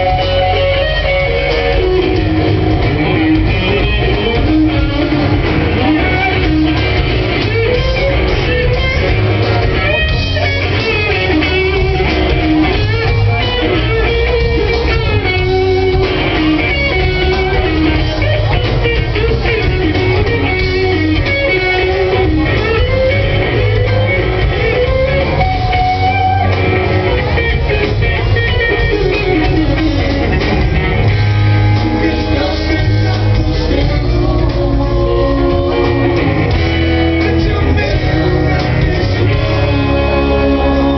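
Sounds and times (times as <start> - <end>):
bass guitar: 0.0 - 40.9
electric guitar lead with bends: 0.0 - 40.9.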